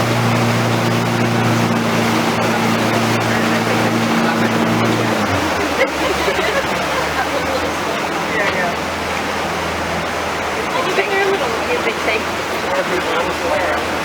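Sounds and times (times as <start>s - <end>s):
boat motor running: 0.0s - 14.0s
water rushing: 0.0s - 14.0s.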